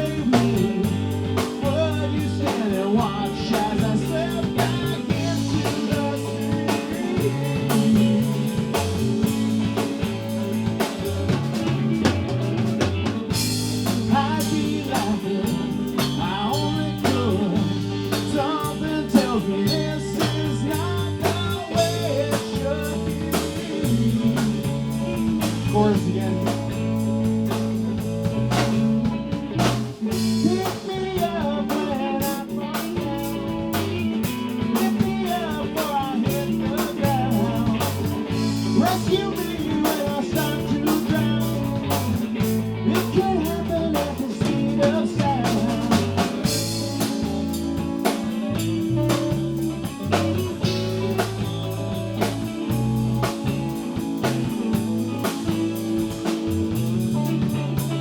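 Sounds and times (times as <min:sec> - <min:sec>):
bending lead guitar line: 0:00.0 - 0:58.0
blues-rock band playing: 0:00.0 - 0:58.0.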